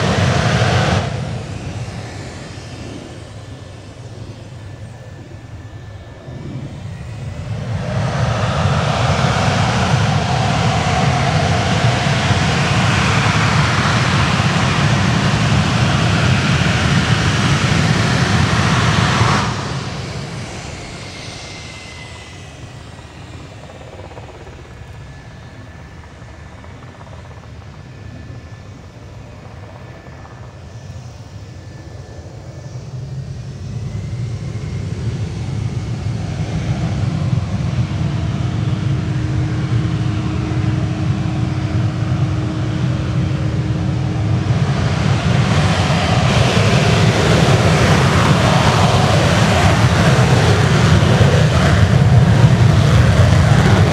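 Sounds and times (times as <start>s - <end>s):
faint steady whine: 0.0s - 53.9s
jet engines roaring: 0.0s - 53.9s.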